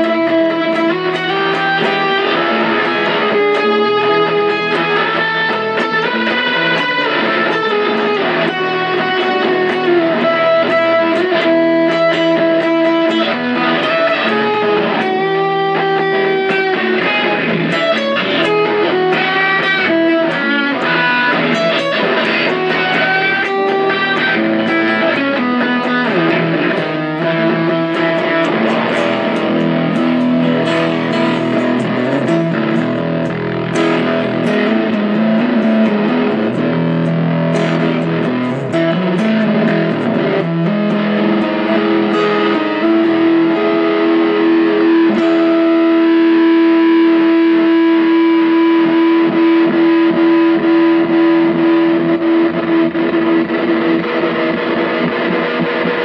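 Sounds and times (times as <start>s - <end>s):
electric guitar lead lines: 0.0s - 56.0s.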